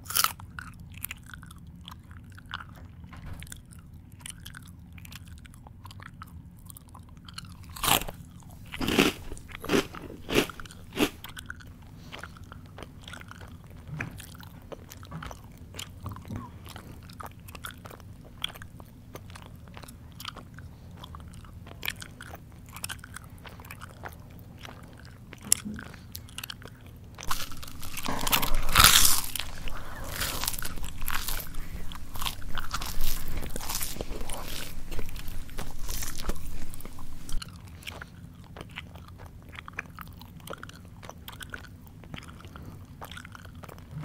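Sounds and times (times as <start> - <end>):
mouth chewing and crunching: 0.0 - 44.0.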